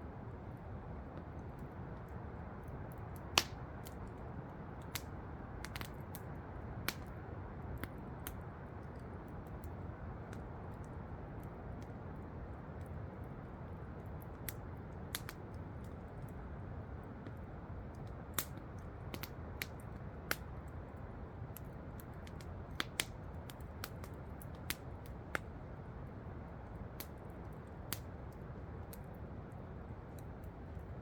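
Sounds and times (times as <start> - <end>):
campfire crackling and popping: 0.4 - 31.0.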